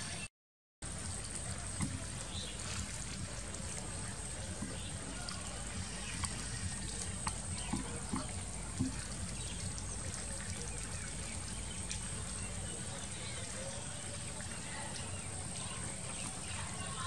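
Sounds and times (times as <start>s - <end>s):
low rumble and hiss: 0.8s - 17.0s.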